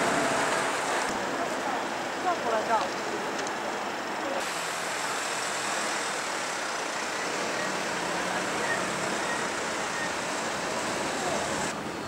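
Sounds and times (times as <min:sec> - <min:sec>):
hiss of tyres and engines: 0:00.0 - 0:12.0.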